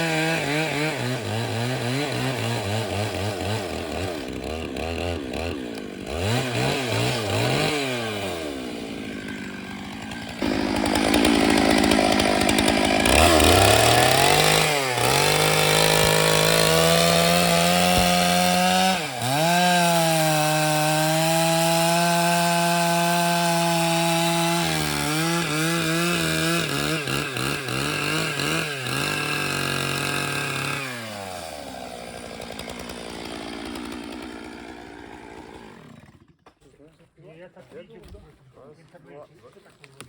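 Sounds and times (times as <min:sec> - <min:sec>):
chainsaw cutting through log: 0:00.0 - 0:36.5.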